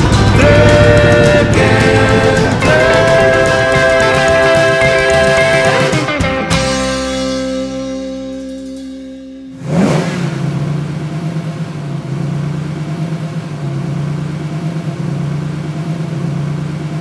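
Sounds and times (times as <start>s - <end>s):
vehicle engine starting and idling: 0.0s - 17.0s.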